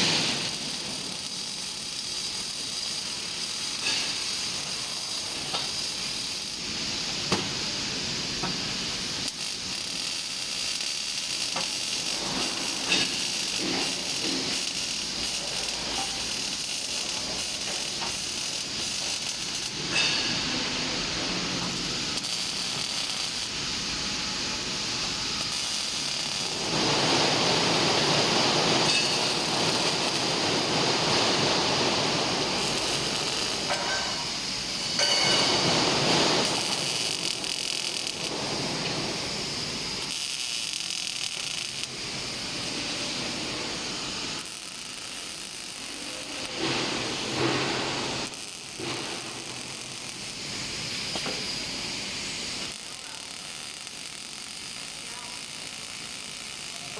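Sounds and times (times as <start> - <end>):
welding arc crackling and hissing: 0.0 - 56.9.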